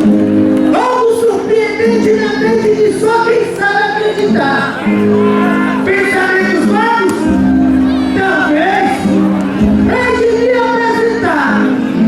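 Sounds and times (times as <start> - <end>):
folk dance music with singing: 0.0 - 12.0.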